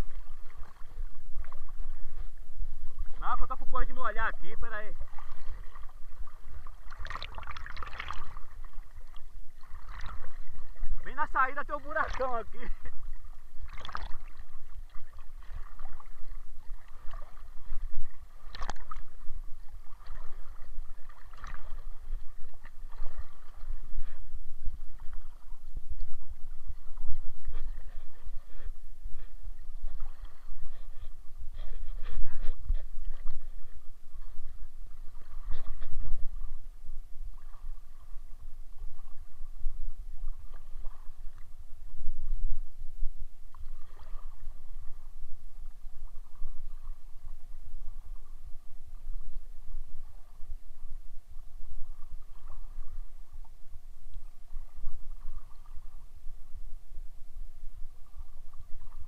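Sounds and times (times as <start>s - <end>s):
water sloshing and splashing: 0.0s - 42.0s, 43.4s - 56.6s, 57.8s - 59.0s
steady low rumble: 0.0s - 59.0s.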